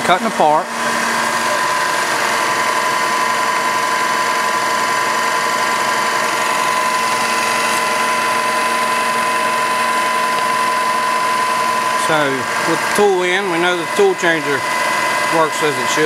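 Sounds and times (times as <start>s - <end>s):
milling machine cutting whine: 0.0s - 16.0s
milling machine spindle running: 0.0s - 16.0s.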